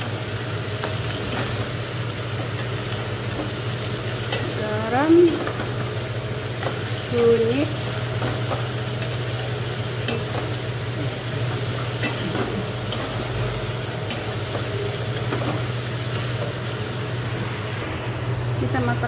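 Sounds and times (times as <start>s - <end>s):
okra sizzling in oil: 0.0s - 17.8s.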